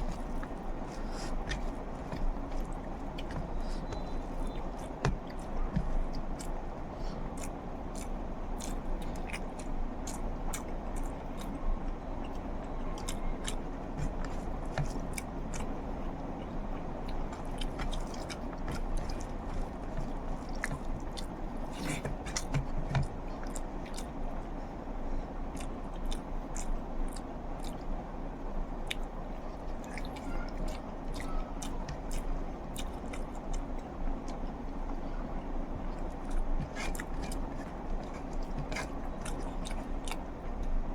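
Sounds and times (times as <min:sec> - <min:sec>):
wet chewing and mouth sounds: 0:00.0 - 0:40.9.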